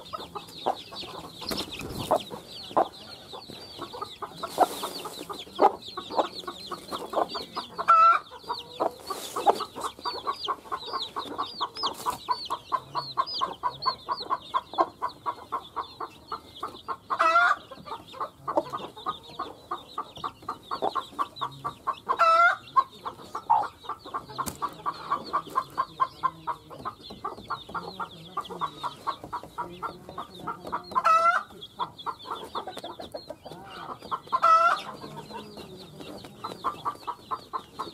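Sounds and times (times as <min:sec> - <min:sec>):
chicks peeping: 0:00.0 - 0:37.9
hen clucking: 0:00.0 - 0:37.9.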